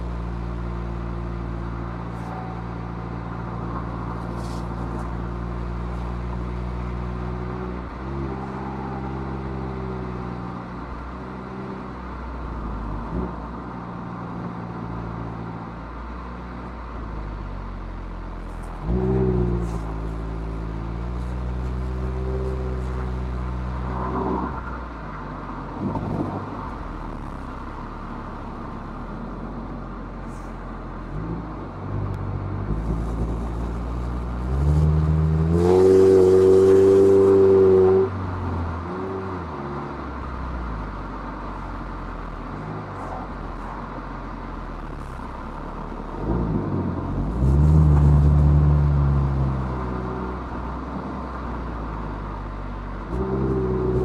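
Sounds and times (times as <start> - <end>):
car engine revving uphill: 0.0 - 54.0.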